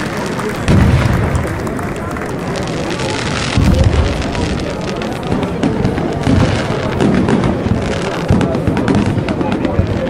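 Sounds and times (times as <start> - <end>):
firework booms: 0.0 - 10.0
fireworks crackling: 0.0 - 10.0.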